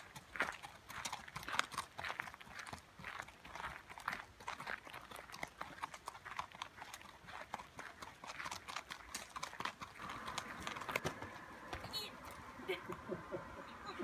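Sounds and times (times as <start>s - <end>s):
hooves clip-clopping on gravel: 0.0s - 12.5s.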